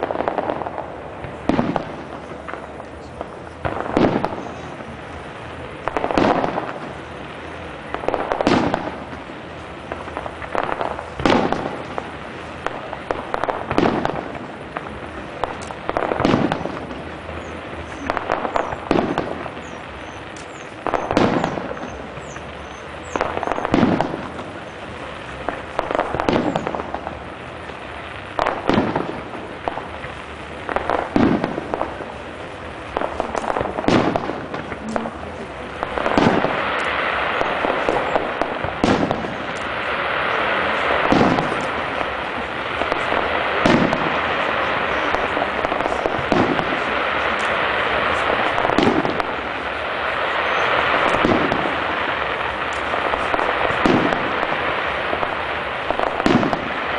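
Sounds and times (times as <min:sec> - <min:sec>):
fireworks bursting with bangs: 0:00.0 - 0:56.9.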